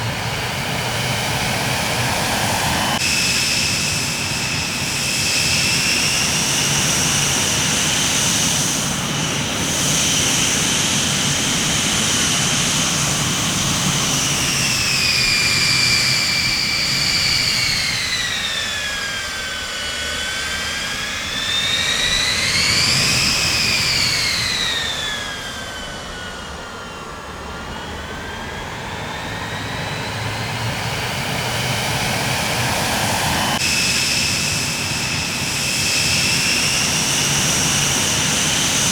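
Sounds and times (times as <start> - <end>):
jet engines rushing and whining: 0.0 - 38.9.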